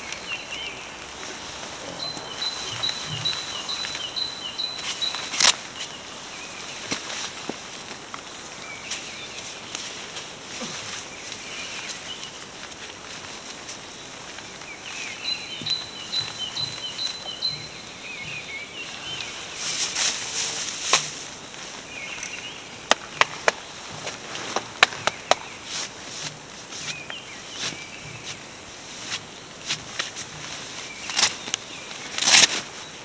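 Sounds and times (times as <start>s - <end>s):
rustling of fabric and plastic: 0.0s - 33.0s
small birds chirping: 0.0s - 33.0s.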